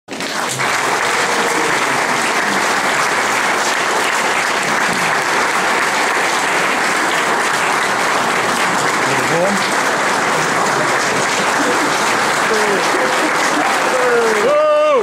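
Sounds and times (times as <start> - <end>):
audience applauding: 0.1 - 15.0.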